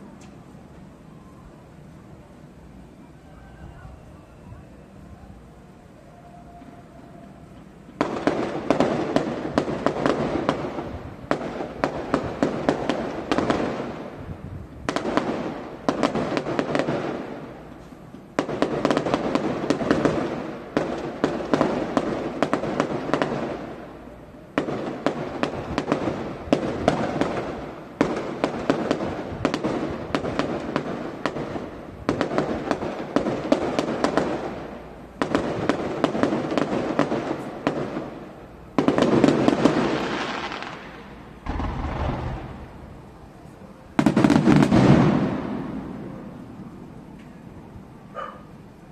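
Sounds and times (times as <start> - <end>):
fireworks crackling bursts: 4.2 - 48.9.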